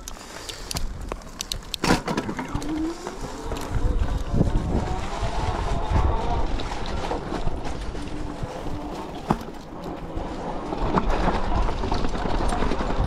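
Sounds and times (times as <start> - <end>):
bike frame rattling over rocks: 0.0 - 13.0
wind and tyre rumble: 0.0 - 13.0.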